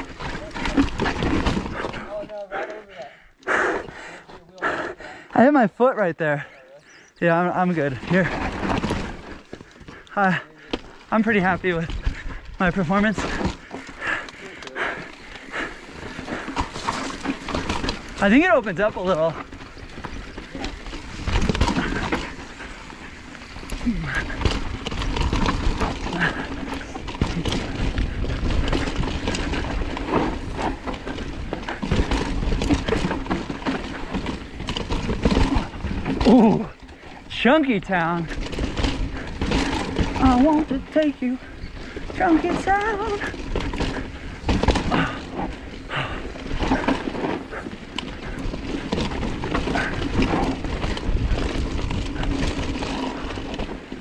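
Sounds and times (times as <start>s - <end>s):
tyres crunching over dirt and stones: 0.0s - 2.7s, 6.9s - 54.0s
bike rattling: 0.0s - 54.0s.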